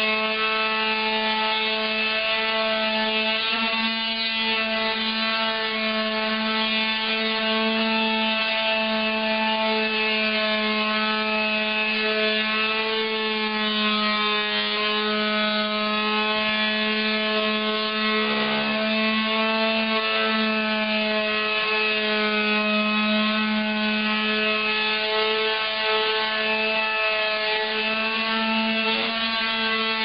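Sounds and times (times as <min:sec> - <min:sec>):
electric sander humming: 0:00.0 - 0:30.0.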